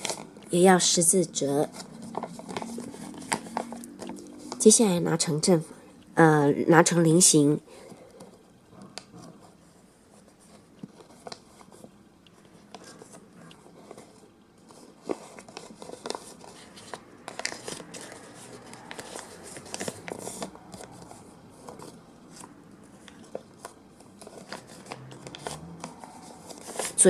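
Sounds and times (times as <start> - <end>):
paper rustling and crinkling: 0.0 - 5.3, 7.7 - 27.0.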